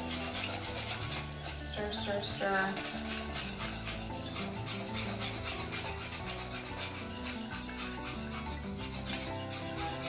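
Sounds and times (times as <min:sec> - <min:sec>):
background music: 0:00.0 - 0:10.0
utensil scraping a saucepan: 0:00.0 - 0:10.0.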